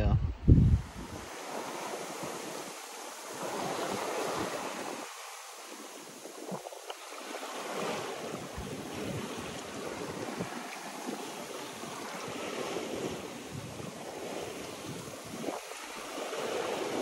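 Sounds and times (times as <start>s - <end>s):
waves washing past boat hull: 0.0s - 17.0s.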